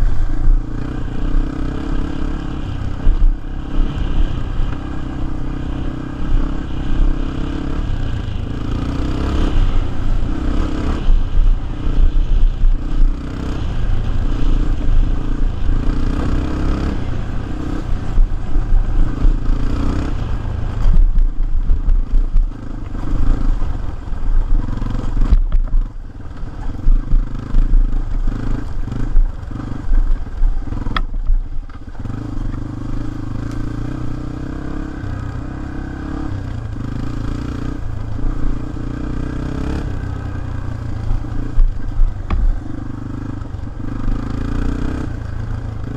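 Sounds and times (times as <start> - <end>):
dirt bike engine revving: 0.0 - 25.6, 31.9 - 45.9.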